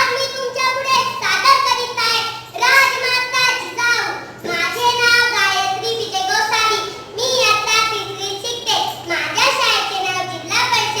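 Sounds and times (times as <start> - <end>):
girl singing: 0.0 - 11.0.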